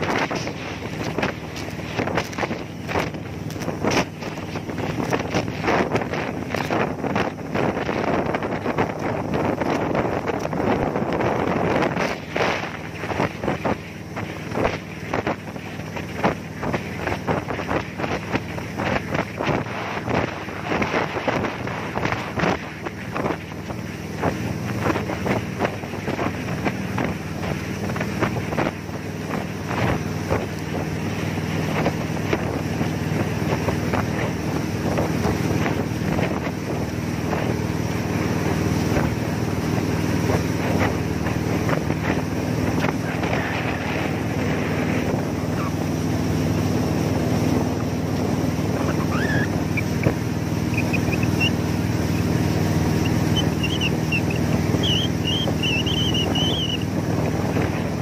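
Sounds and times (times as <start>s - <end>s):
jet boat engine droning: 0.0s - 58.0s
wind buffeting microphone: 0.0s - 58.0s.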